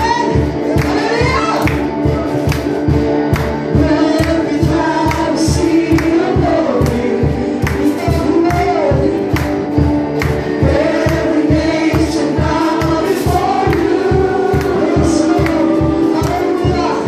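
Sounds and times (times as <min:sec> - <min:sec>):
drums: 0:00.0 - 0:17.0
guitar: 0:00.0 - 0:17.0
keyboard: 0:00.0 - 0:17.0
singers: 0:00.0 - 0:17.0.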